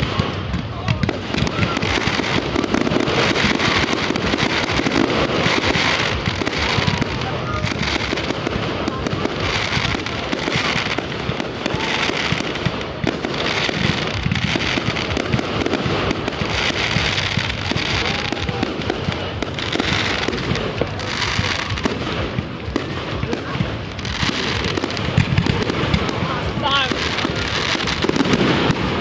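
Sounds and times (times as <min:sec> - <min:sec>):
fireworks crackling: 0:00.0 - 0:29.0.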